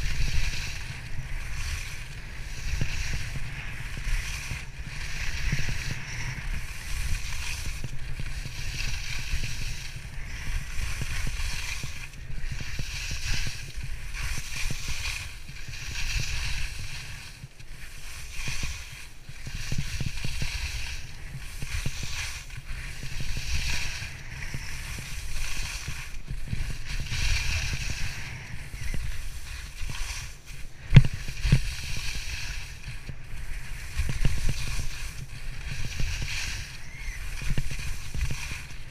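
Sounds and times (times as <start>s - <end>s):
skis scraping across snow: 0.0s - 38.9s
wind rumbling on microphone: 0.0s - 38.9s.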